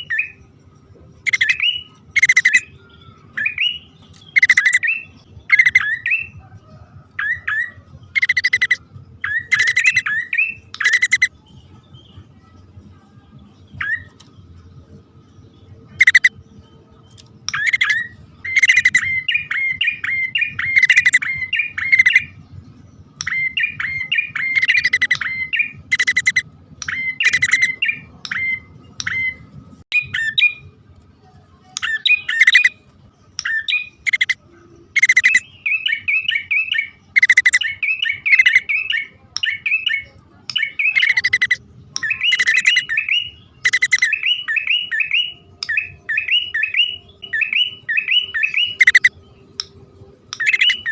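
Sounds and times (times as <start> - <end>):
bird chirping calls: 0.0 - 30.7, 31.6 - 50.9.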